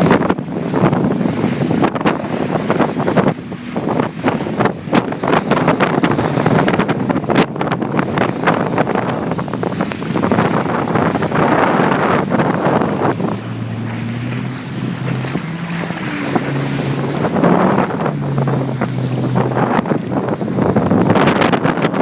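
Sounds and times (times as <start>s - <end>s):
water slapping and splashing: 0.0s - 22.0s
wind blasting microphone: 0.0s - 22.0s.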